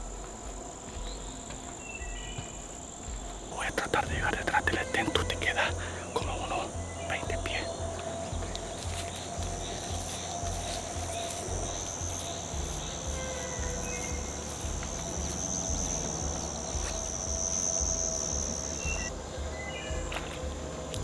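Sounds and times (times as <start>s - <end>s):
background music with low beat: 0.0s - 21.0s
insects trilling: 0.0s - 21.0s.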